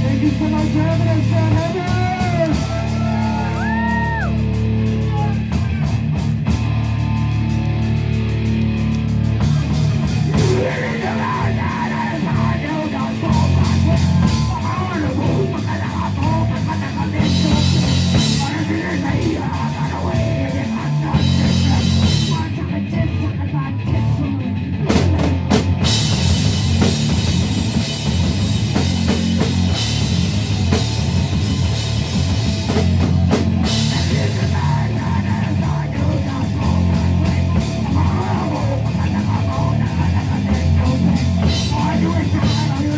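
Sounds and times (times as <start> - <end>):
drum kit: 0.0 - 22.6, 24.0 - 42.9
bass guitar: 0.0 - 42.9
distorted electric guitars: 0.0 - 42.9.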